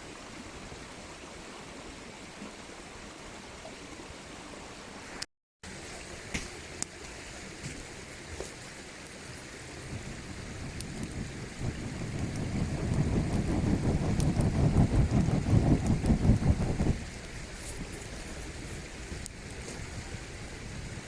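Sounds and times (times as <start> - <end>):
mountain stream flowing: 0.0 - 21.0.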